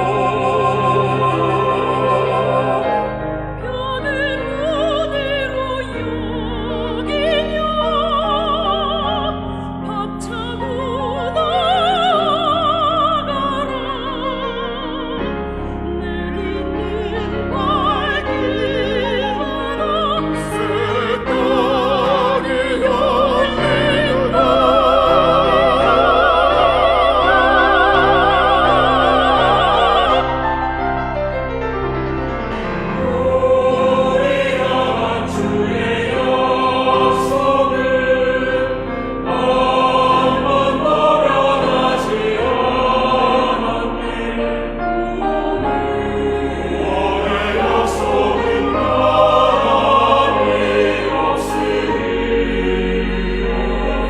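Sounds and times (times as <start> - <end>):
choir singing with solo voices: 0.0 - 54.0
piano: 0.0 - 54.0.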